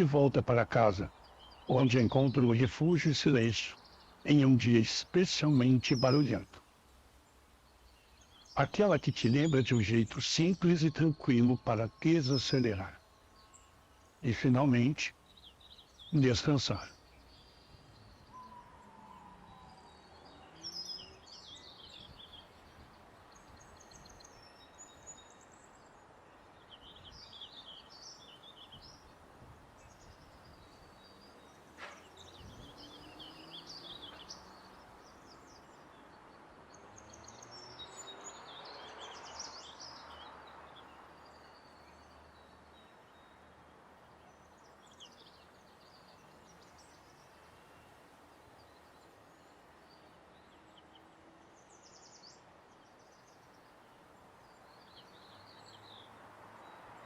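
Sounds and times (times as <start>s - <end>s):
small birds chirping: 0.0s - 57.0s
soft steady hiss: 0.0s - 57.0s.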